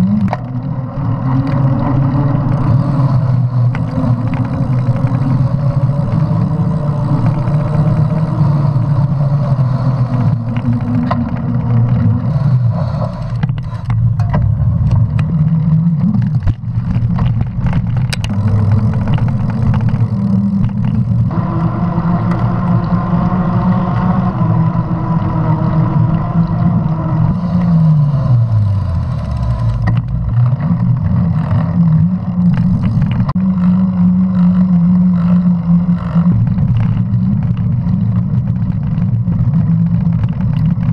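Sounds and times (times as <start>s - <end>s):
bike tyres humming on pavement: 0.0s - 40.9s.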